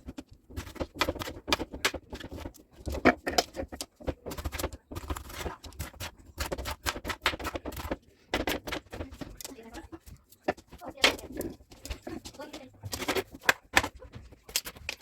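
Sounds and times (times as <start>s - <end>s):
scraping: 0.0s - 15.0s
utensils clicking and knocking: 0.0s - 15.0s.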